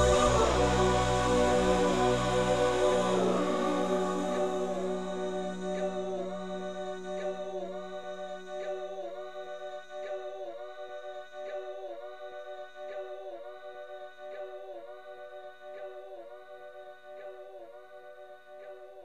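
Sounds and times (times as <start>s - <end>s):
choir-like voices holding chords: 0.0s - 17.6s.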